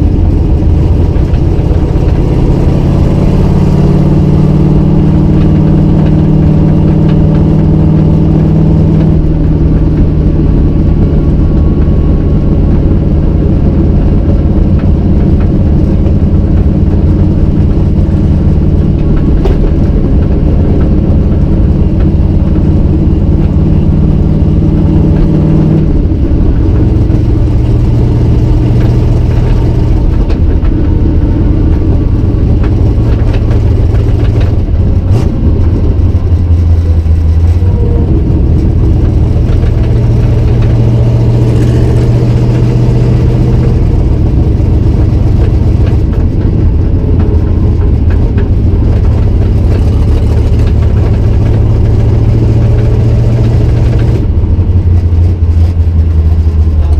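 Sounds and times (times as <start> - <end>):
car engine cruising heard from cabin: 0.0 - 56.9.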